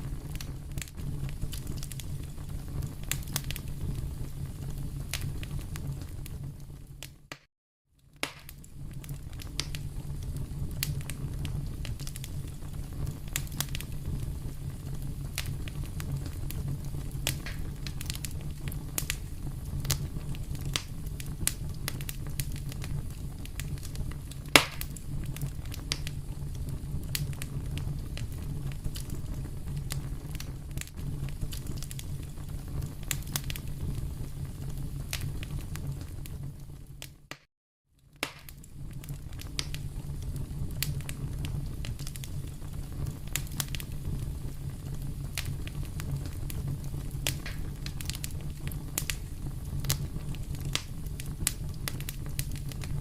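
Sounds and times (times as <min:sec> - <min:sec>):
wood fire crackling: 0:00.0 - 0:07.4, 0:08.0 - 0:53.0
loud pop of fire: 0:00.0 - 0:07.5, 0:08.2 - 0:37.5, 0:38.2 - 0:53.0.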